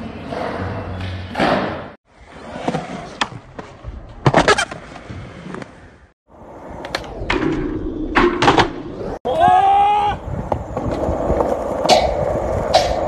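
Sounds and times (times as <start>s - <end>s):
skateboards rolling on concrete: 0.0s - 13.0s.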